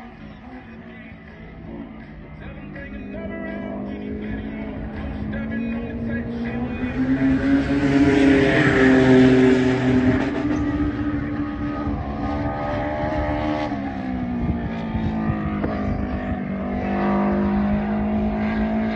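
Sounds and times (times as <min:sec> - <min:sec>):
race car engine: 0:00.0 - 0:18.9.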